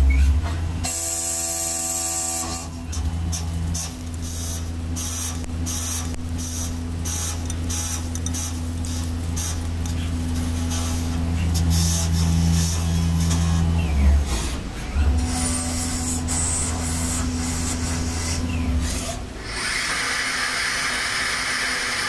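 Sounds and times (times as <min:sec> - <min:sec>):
lathe spindle hum: 0:00.8 - 0:22.0
lathe whine: 0:00.8 - 0:22.0.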